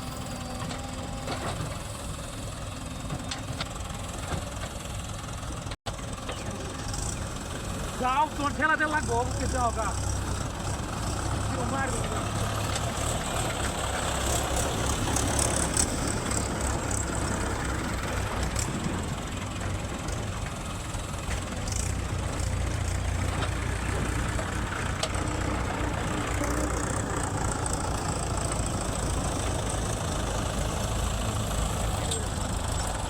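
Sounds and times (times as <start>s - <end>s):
diesel machinery engine rumbling: 0.0s - 33.0s.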